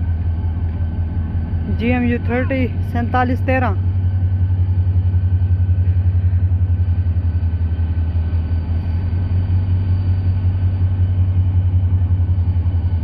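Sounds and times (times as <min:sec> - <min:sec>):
diesel locomotive engine pulsing: 0:00.0 - 0:13.0
faint steady whine: 0:00.0 - 0:13.0.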